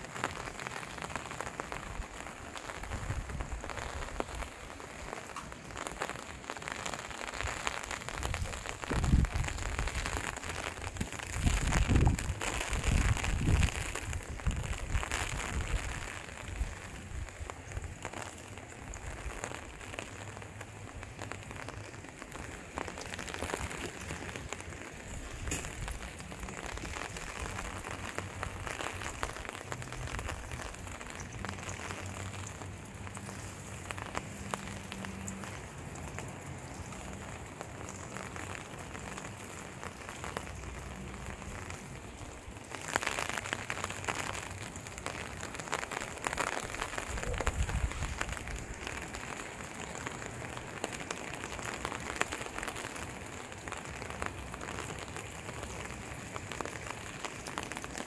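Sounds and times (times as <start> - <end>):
light rain pattering: 0.0 - 58.0.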